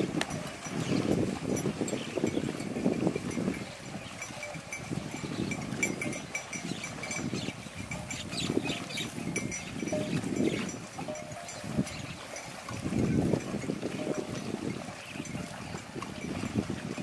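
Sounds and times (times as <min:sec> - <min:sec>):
buffaloes chewing and tearing grass: 0:00.0 - 0:17.0.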